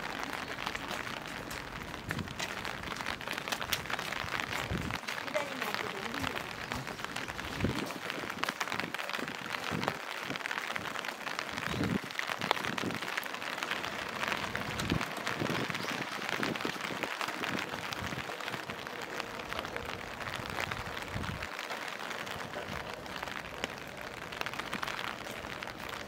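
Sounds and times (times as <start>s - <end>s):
rain pattering: 0.0s - 26.0s.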